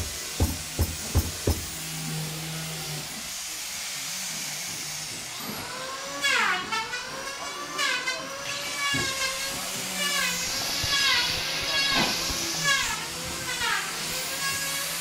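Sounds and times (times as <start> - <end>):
power tool motor cutting wood: 0.0 - 15.0.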